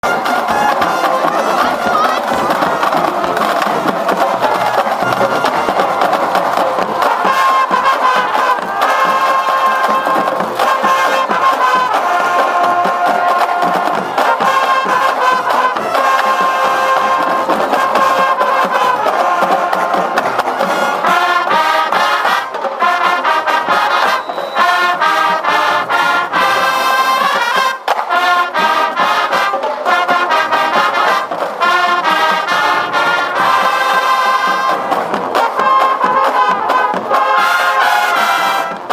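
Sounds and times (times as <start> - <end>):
brass instruments playing chords: 0.0 - 38.9.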